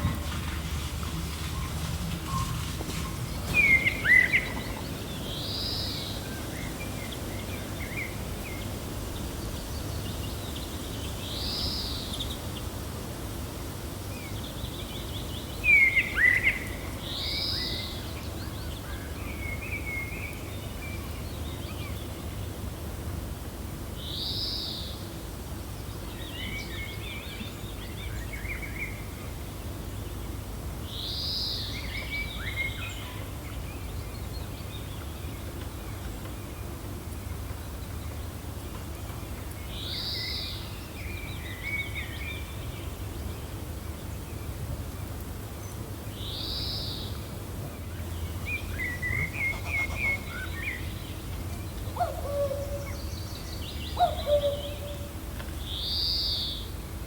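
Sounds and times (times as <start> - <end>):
songbirds calling: 0.0 - 22.8, 24.0 - 57.0
steady low wind: 0.0 - 57.0.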